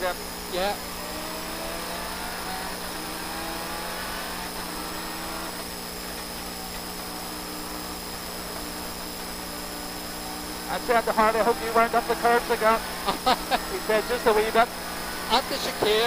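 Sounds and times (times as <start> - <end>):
rally car engine from inside cabin: 0.6 - 16.0.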